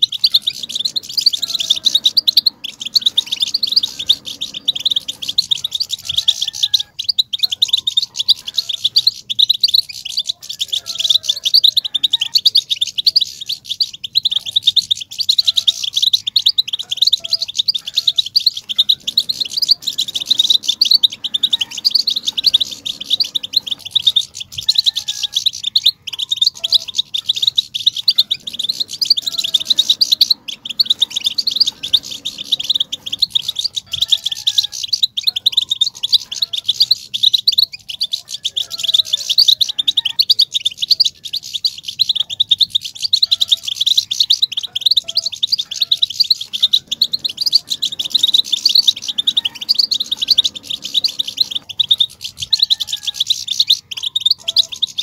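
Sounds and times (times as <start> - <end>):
goldfinches twittering: 0.0 - 55.0.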